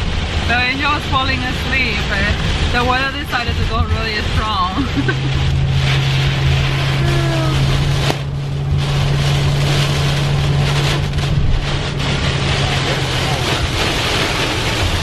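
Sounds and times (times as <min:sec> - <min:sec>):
low car cabin hum: 0:00.0 - 0:15.0
wind and rain rushing: 0:00.0 - 0:15.0.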